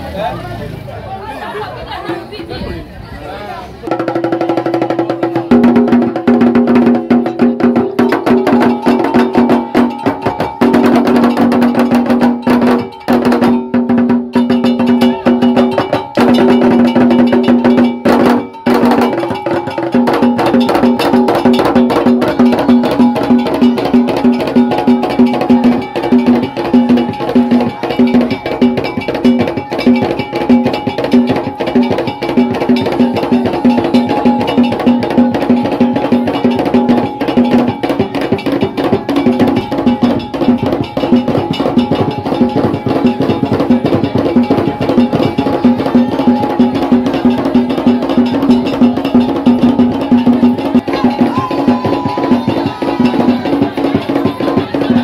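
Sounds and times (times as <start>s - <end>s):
drums: 0.0s - 55.0s
wood block strikes: 3.9s - 55.0s.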